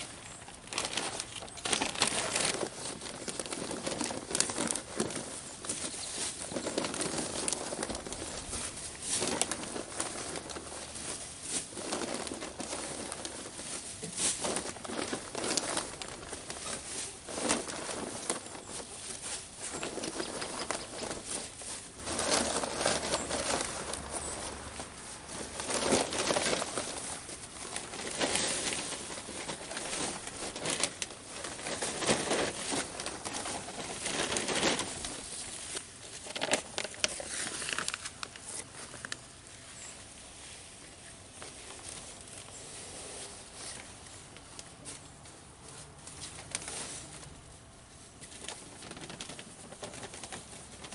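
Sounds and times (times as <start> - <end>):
dry leaves rustling: 0.0 - 50.9
plastic bags crinkling: 0.0 - 50.9.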